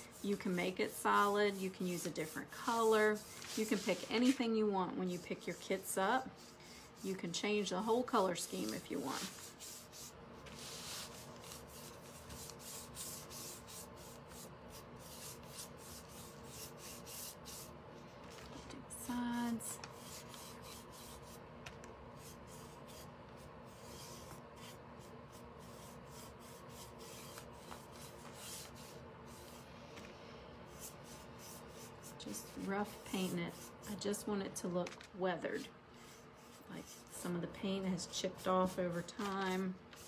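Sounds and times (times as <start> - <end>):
paintbrush scratching on wood: 0.0 - 17.7, 19.4 - 21.4, 22.2 - 29.6, 30.7 - 34.3, 35.5 - 40.0.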